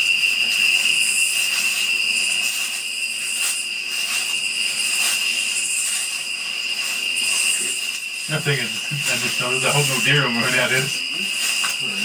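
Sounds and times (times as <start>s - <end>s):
insects trilling: 0.0s - 12.0s
pulsing insect hiss: 0.0s - 12.0s.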